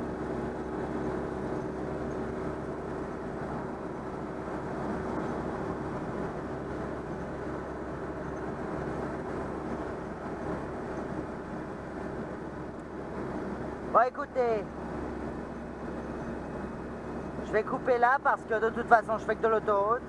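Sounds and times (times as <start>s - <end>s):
car engine droning: 0.0s - 20.0s
road noise: 0.0s - 20.0s.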